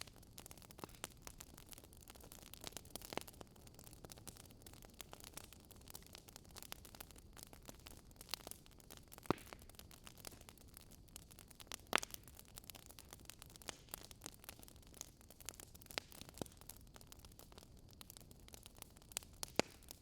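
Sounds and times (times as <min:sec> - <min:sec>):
sharp pops from fire: 0:00.0 - 0:20.0
wood fire crackling: 0:00.0 - 0:20.0.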